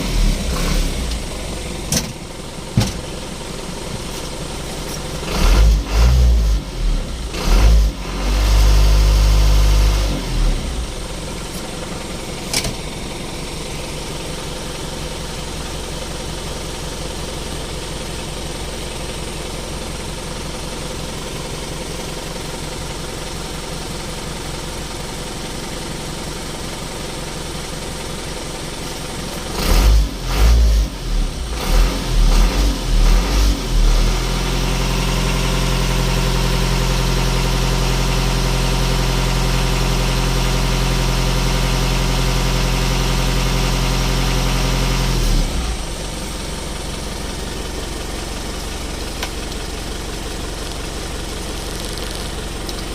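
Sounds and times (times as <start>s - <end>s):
diesel truck engine idling and revving: 0.0s - 52.9s.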